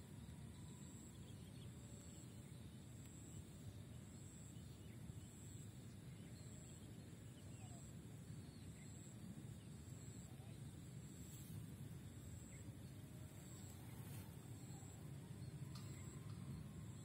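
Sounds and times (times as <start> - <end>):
faint high pulsing tone: 0.0 - 17.0.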